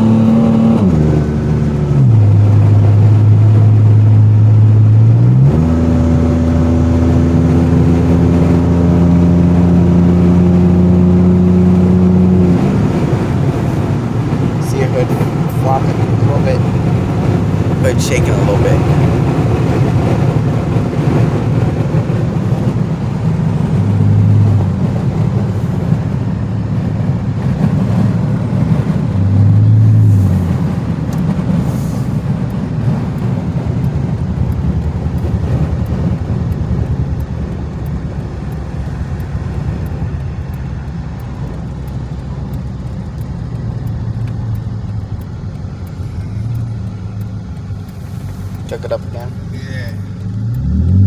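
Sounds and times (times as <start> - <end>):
car engine from inside: 0.0 - 51.0
road rumble: 0.0 - 51.0.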